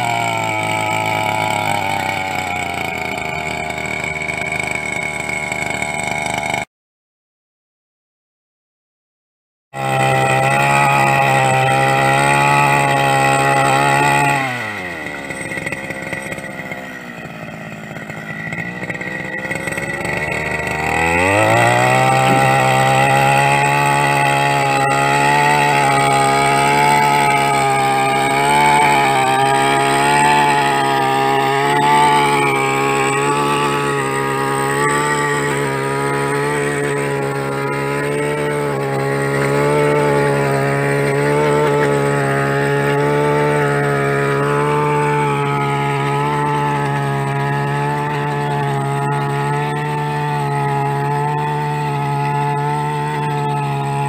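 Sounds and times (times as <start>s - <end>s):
blade cutting soil: 0.0s - 6.7s, 9.8s - 54.0s
brush cutter engine revving: 0.0s - 6.7s, 9.8s - 54.0s.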